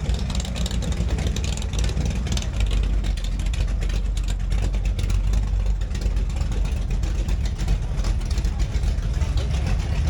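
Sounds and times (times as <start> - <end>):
motorcycle engines idling and revving: 0.0 - 10.0.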